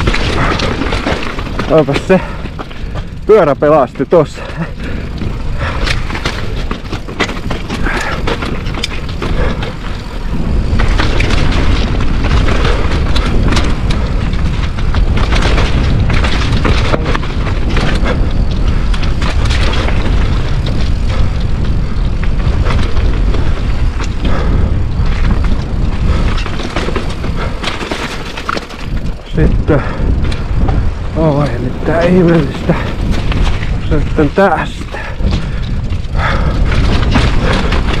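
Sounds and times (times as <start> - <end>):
bike clattering over rocks: 0.0 - 38.0
wind rumble on microphone: 0.0 - 38.0.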